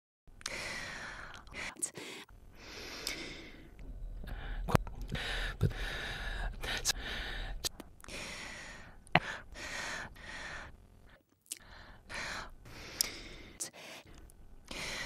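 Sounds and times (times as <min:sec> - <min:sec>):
person breathing heavily: 0:00.4 - 0:15.0.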